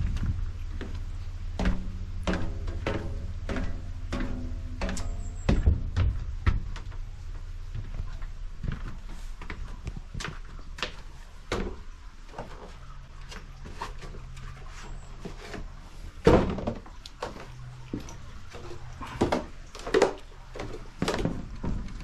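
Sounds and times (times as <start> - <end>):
footsteps on wooden floorboards: 0.0 - 15.8, 16.5 - 22.0
faint low hum: 0.0 - 22.0.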